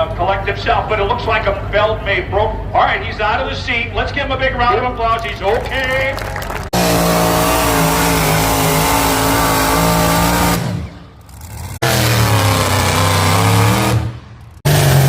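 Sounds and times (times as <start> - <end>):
tractor engine at full throttle: 0.0 - 15.0.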